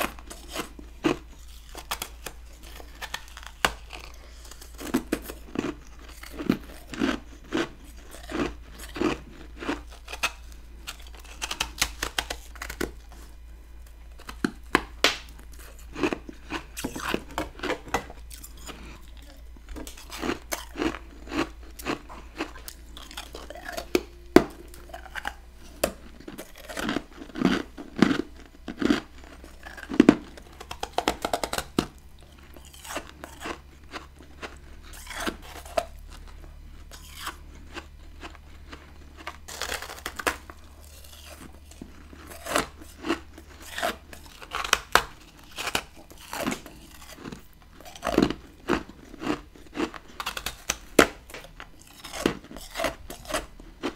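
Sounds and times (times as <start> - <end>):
chewing icy frost crunches: 0.0 - 53.9.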